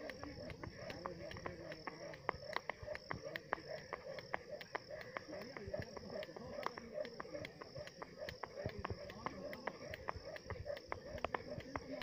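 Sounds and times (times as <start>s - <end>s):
insects chirring: 0.0s - 12.0s
skipping rope ticking on ground: 0.0s - 12.0s.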